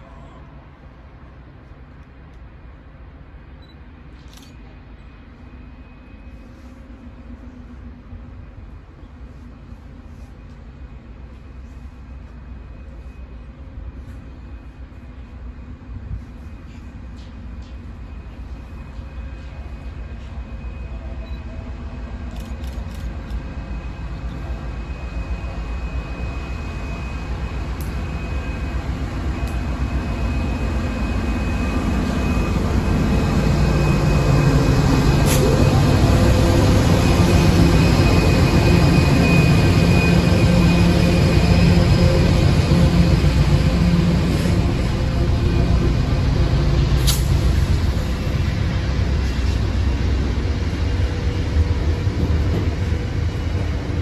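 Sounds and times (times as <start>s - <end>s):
freight train rumbling past: 0.0s - 22.4s, 23.0s - 54.0s.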